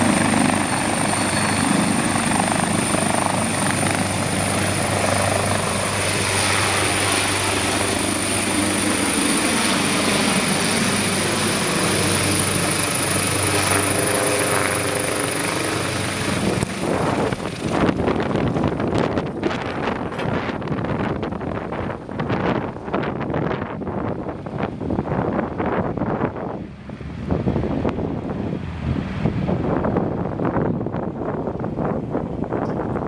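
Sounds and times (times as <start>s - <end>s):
helicopter rotor and engine noise: 0.0s - 33.0s
high turbine whine: 0.0s - 33.0s
wind buffeting the microphone: 0.0s - 33.0s.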